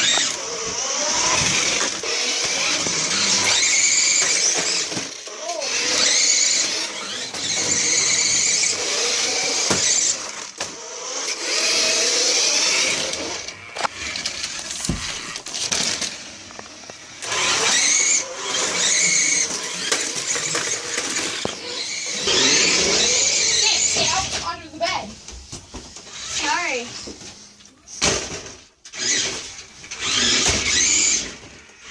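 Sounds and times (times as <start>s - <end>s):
toy cars colliding: 0.0s - 24.6s, 27.9s - 31.9s
toy car motors whining: 0.0s - 25.1s, 25.9s - 31.9s.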